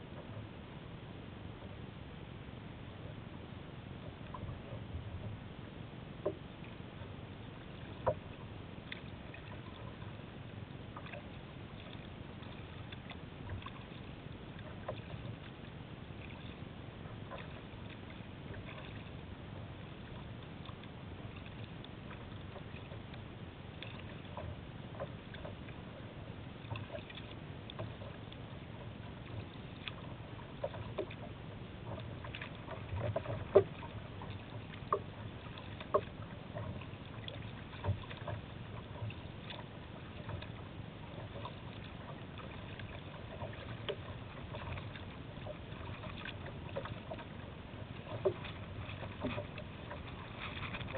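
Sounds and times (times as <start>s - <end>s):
water lapping against kayak hull: 0.0s - 50.9s.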